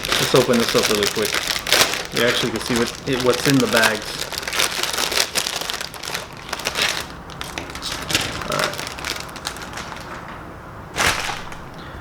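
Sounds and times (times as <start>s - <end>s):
plastic bags crinkling: 0.0s - 11.8s.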